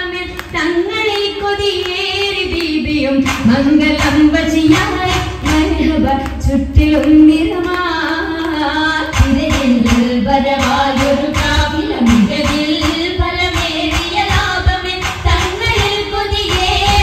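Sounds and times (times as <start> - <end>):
women singing: 0.0 - 17.0.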